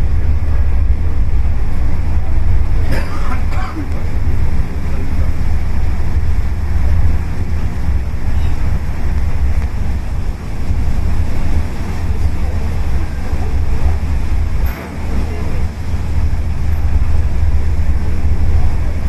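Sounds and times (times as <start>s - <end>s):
churning water: 0.0s - 19.0s
ferry engines rumbling: 0.0s - 19.0s
wind buffeting microphone: 0.0s - 19.0s.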